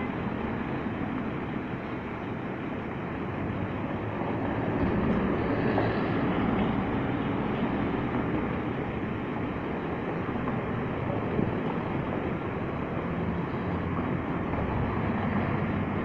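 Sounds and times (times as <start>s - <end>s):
bus engine rumble passing: 0.0s - 16.0s
cars running: 0.0s - 16.0s.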